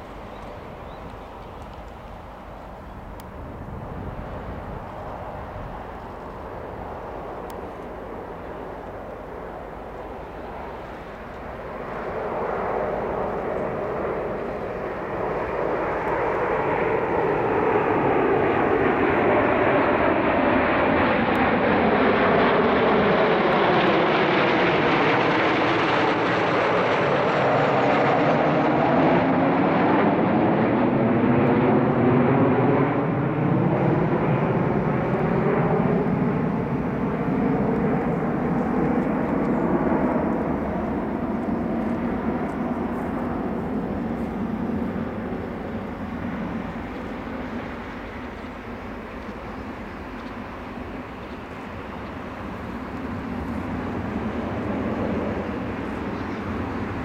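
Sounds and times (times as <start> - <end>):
jet aircraft roar overhead: 0.0 - 57.0.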